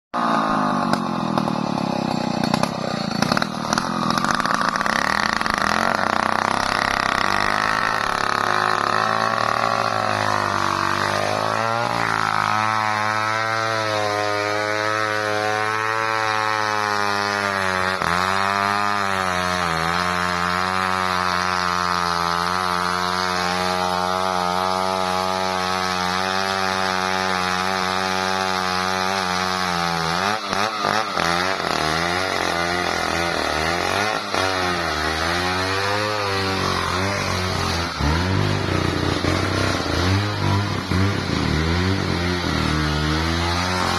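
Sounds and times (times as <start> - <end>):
chainsaw engine running: 0.2 - 43.9.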